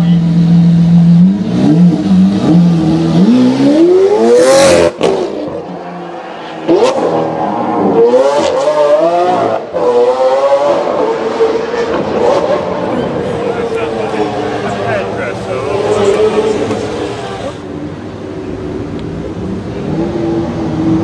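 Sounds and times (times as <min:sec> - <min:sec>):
sports car engine revving: 0:00.0 - 0:21.0.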